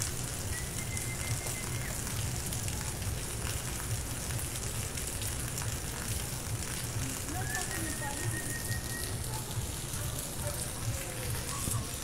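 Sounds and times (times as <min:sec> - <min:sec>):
rain hissing on street and rooftops: 0:00.0 - 0:12.0.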